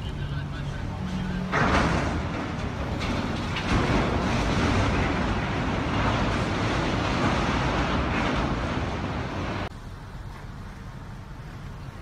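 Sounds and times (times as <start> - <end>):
churning water: 0.0 - 12.0.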